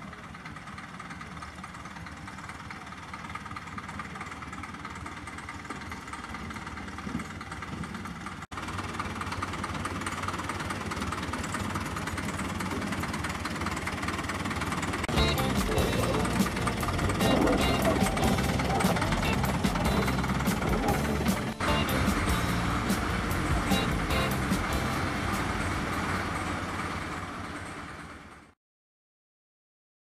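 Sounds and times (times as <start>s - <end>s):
diesel locomotive engine running: 0.0s - 28.6s.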